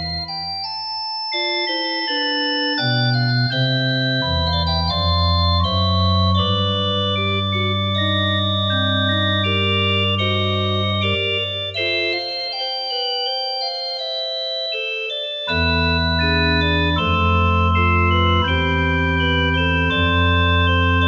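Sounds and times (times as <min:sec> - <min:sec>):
organ chords: 0:00.0 - 0:21.0.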